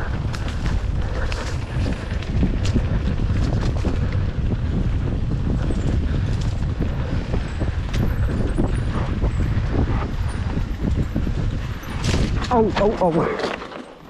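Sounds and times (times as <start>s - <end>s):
wind buffeting microphone: 0.0s - 13.6s
bike rattling over bumps: 0.0s - 14.0s
bike tyre rumble on dirt: 0.0s - 14.0s.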